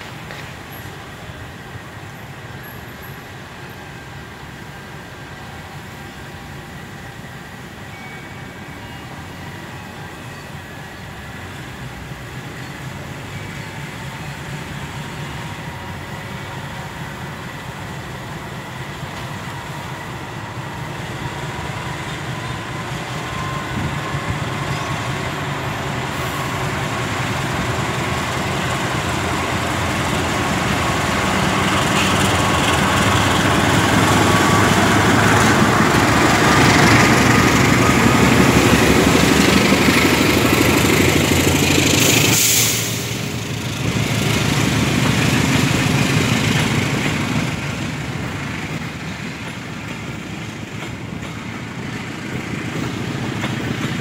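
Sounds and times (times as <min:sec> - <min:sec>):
diesel locomotive approaching: 0:00.0 - 0:54.0.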